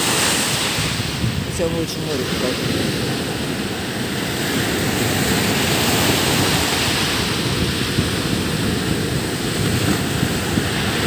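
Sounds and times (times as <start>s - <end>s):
waves breaking on sandy beach: 0.0s - 11.0s.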